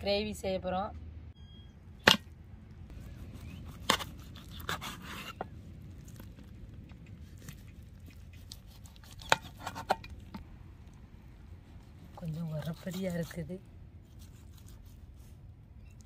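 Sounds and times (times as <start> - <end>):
low steady hum: 0.0 - 16.0
crackly scrapes: 2.9 - 16.0.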